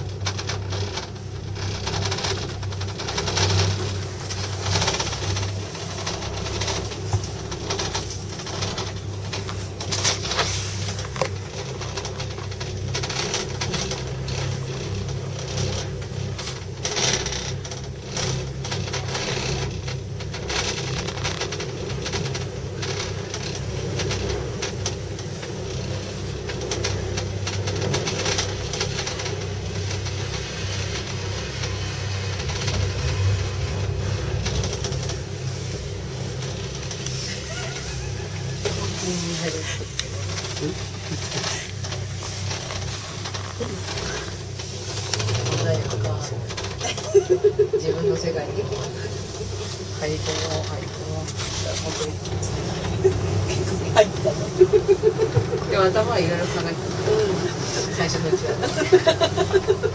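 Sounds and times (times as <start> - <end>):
gondola mechanical hum: 0.0 - 59.9.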